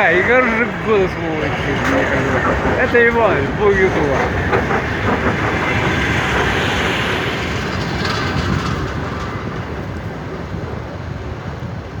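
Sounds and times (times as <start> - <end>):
electric train moving on tracks: 0.0 - 12.0.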